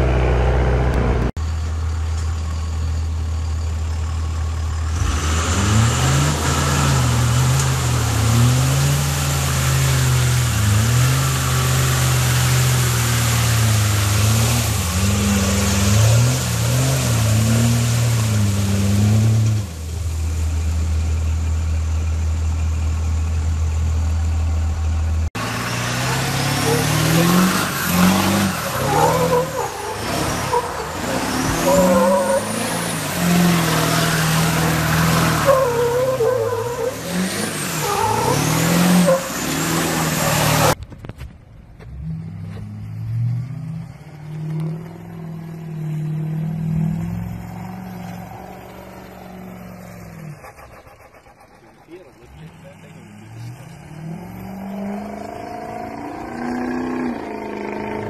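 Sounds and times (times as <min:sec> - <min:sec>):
truck engine accelerating: 0:00.0 - 0:58.0
pickup truck engine revving: 0:04.6 - 0:40.8, 0:41.9 - 0:58.0.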